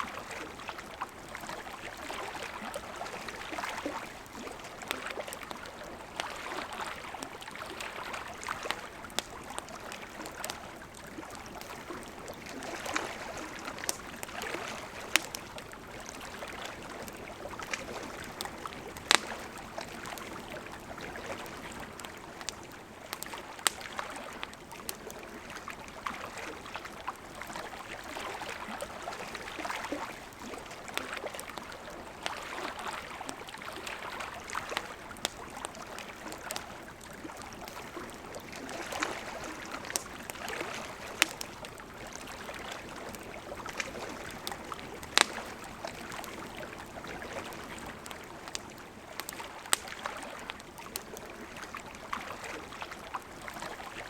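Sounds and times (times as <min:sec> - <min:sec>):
campfire crackling and popping: 0:00.0 - 0:53.9
river flowing: 0:00.0 - 0:54.0.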